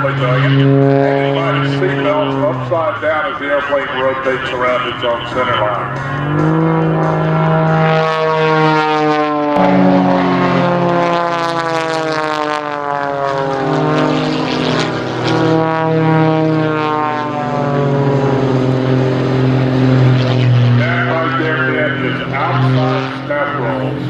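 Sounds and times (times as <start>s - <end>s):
propeller airplane engine: 0.0s - 24.0s.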